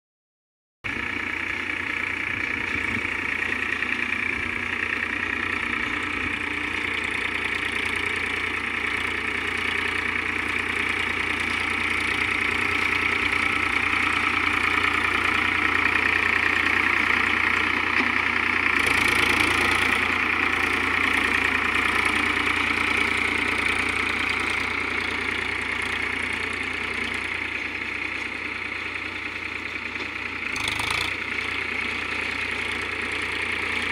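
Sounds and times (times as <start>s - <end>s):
tractor engine running: 0.8s - 33.9s.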